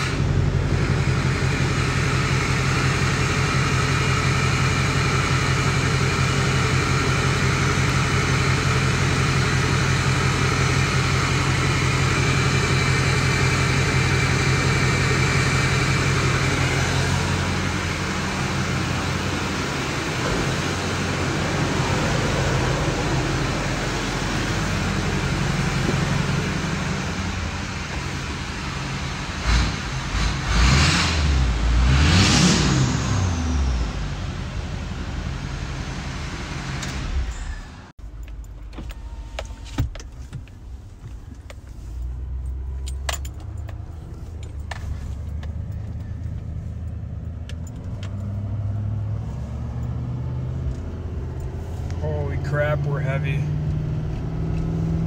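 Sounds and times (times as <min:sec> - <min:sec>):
diesel engine idling and revving: 0:00.0 - 0:55.0
engine rumble inside cab: 0:00.0 - 0:55.0.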